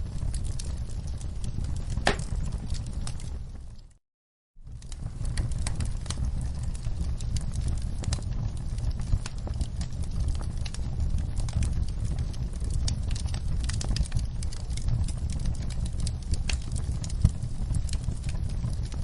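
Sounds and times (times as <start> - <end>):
campfire crackling and popping: 0.0 - 4.0, 4.6 - 19.0
fire low rumble: 0.0 - 4.0, 4.6 - 19.0.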